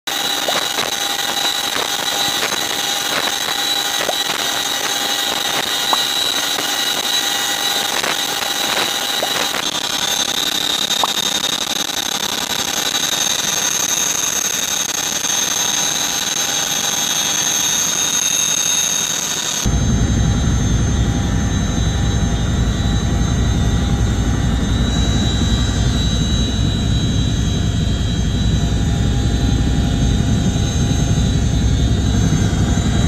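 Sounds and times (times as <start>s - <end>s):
helicopter turbine whine: 0.1s - 33.0s.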